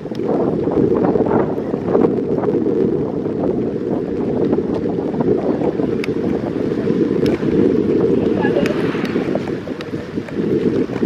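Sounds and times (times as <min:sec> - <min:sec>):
faint ticks from bicycle ride: 0:00.0 - 0:11.0
wind buffeting microphone: 0:00.0 - 0:11.0.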